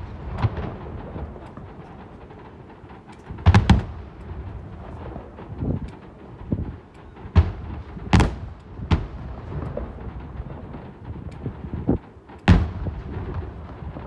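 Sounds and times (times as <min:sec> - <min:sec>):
fireworks shells booming: 0:00.0 - 0:14.0.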